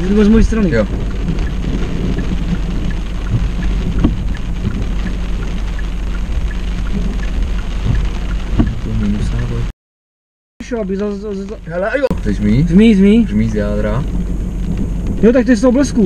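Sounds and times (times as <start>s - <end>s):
low rumble: 0.0s - 9.7s, 10.6s - 16.0s
rain on a car: 0.0s - 9.7s, 10.6s - 16.0s.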